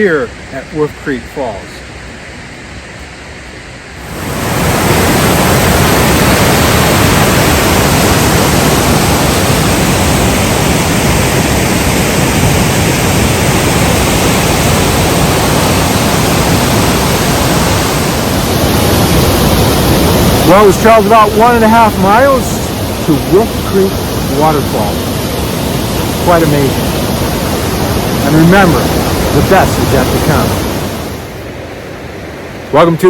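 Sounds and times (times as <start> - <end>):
waterfall rushing: 4.0 - 31.4.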